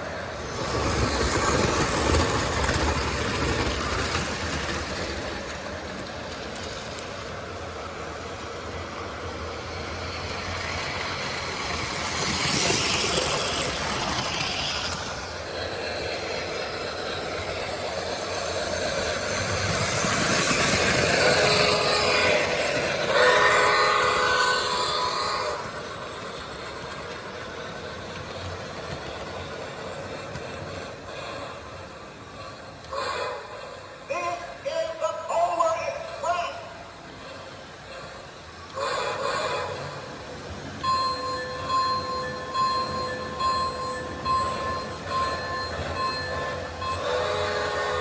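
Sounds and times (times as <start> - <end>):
model train running on track: 0.0 - 48.0.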